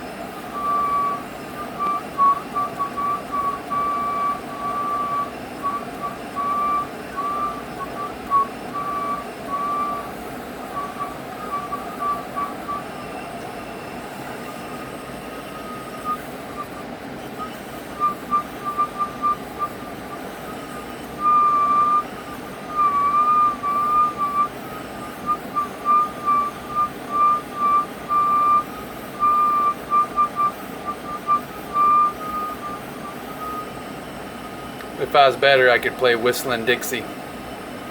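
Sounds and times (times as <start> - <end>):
hvac whistling: 0.0 - 37.9.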